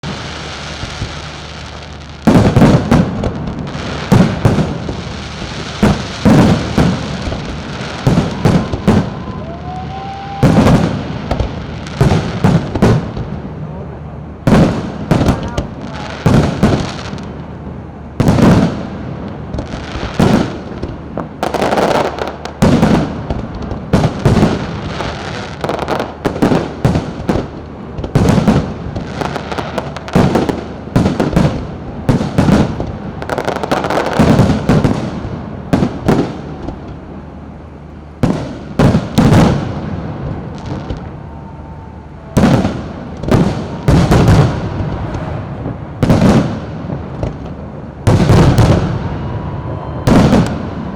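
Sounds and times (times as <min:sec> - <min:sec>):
fireworks bangs with echo: 0:00.0 - 0:37.2, 0:38.2 - 0:50.9.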